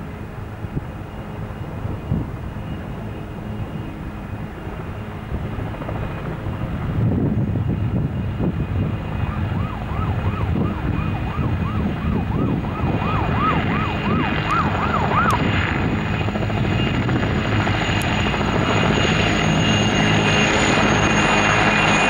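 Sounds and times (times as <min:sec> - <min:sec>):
helicopters flying past: 0:00.0 - 0:22.0.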